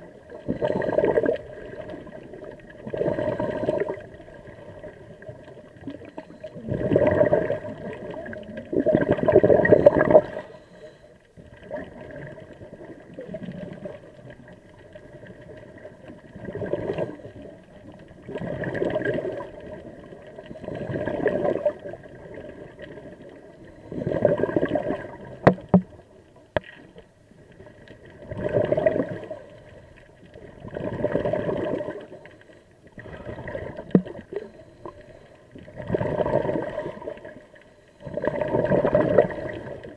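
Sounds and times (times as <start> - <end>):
underwater regulator bubbling: 0.0 - 39.9.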